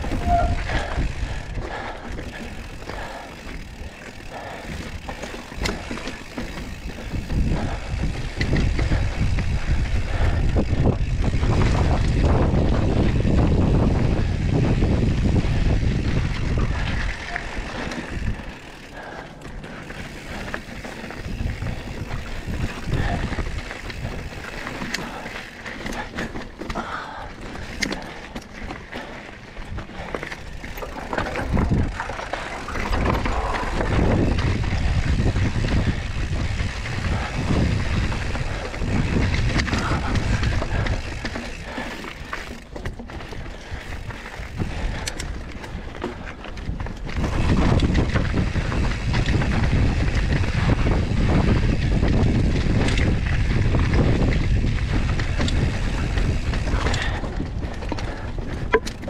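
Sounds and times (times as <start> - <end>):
bike tyres on dirt trail: 0.0 - 59.0
wind buffeting microphone: 0.0 - 59.0.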